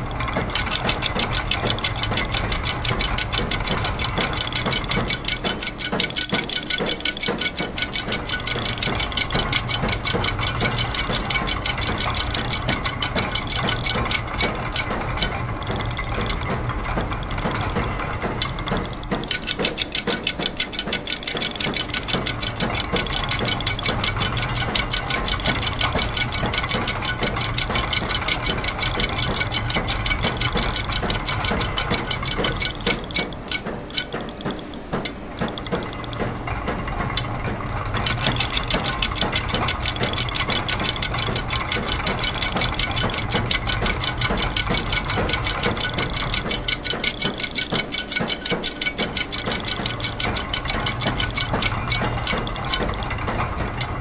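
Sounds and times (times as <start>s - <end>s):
gears and ratchets clicking: 0.0s - 54.0s
steady low machine hum: 0.0s - 54.0s.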